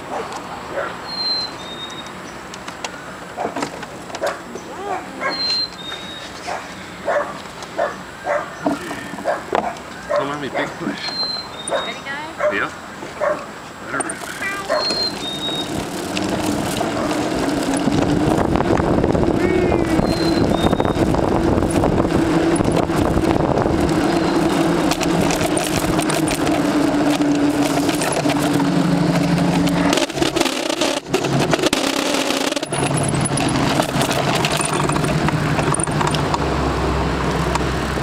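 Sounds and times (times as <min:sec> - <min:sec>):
wheels rumbling over pavement: 0:00.0 - 0:38.0.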